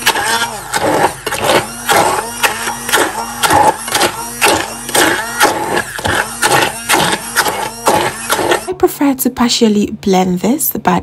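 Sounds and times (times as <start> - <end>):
blender pulsing: 0.0 - 8.9.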